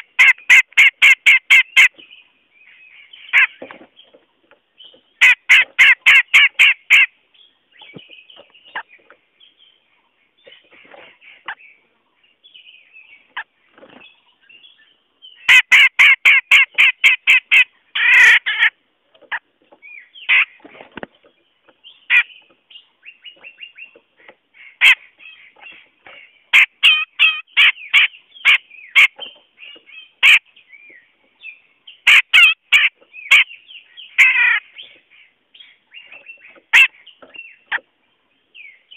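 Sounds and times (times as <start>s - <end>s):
bulbul calling: 0.0s - 38.9s.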